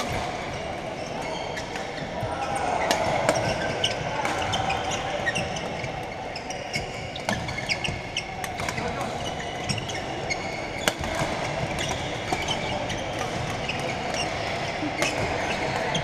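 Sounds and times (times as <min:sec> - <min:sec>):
chatter of many players: 0:00.0 - 0:16.0
shoes squeaking on court floor: 0:00.0 - 0:16.0
rackets hitting shuttlecocks: 0:02.8 - 0:16.0.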